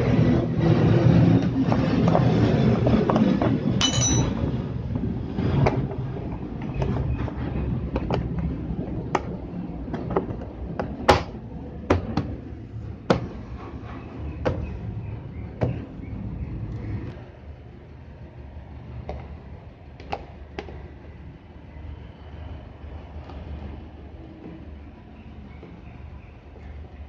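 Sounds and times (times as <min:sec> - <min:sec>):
low mechanical rumble: 0:00.0 - 0:27.0.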